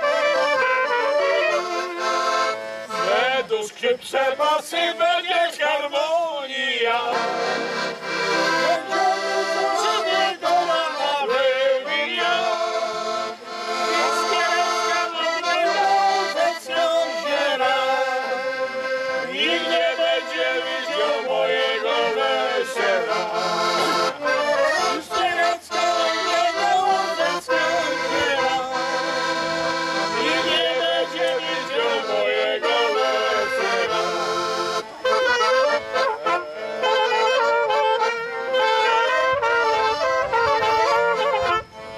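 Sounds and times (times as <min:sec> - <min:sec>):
instrumental folk music: 0:00.0 - 0:41.9.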